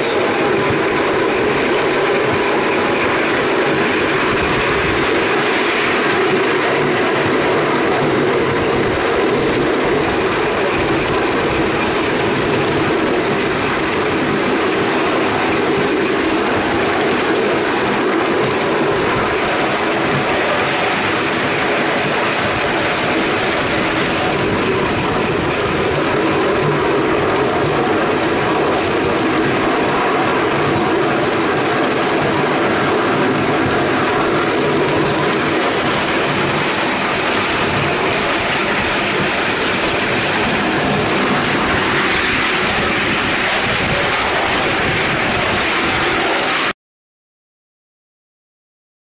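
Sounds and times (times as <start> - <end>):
model steam locomotive running: 0.0 - 46.7.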